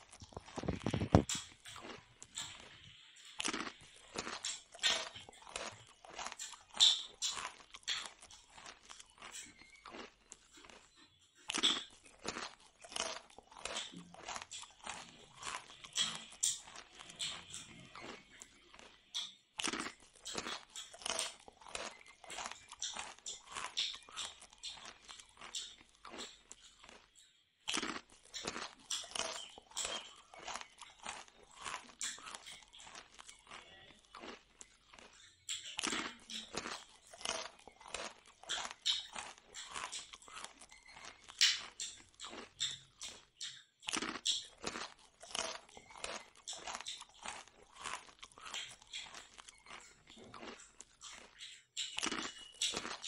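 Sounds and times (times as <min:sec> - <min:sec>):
crunchy chewing: 0:00.0 - 0:53.0.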